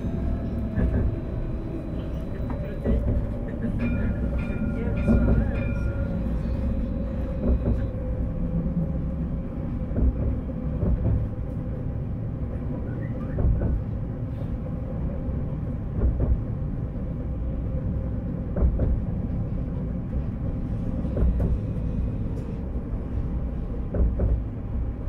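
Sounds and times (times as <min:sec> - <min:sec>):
tram wheels rumbling: 0:00.0 - 0:25.0.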